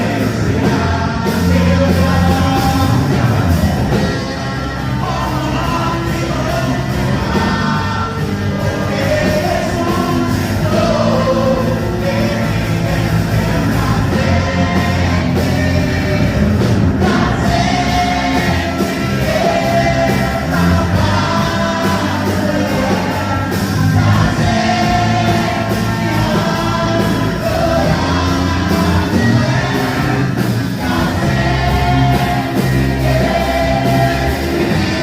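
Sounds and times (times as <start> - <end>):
band with bass and drums: 0.0 - 35.0
voices singing held notes: 0.0 - 35.0.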